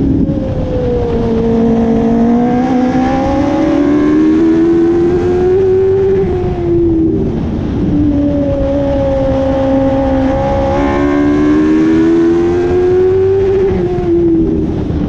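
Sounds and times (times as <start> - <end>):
race car engines at high revs: 0.0 - 15.0.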